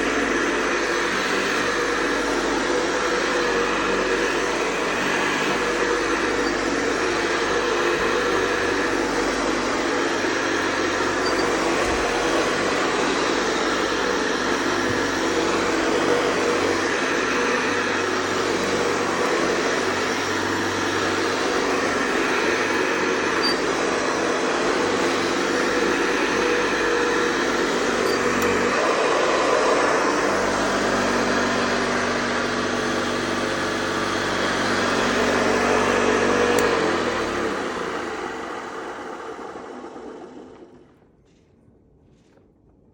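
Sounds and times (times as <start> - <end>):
motor winding down: 0.0 - 41.0
vacuum cleaner humming: 0.0 - 41.0.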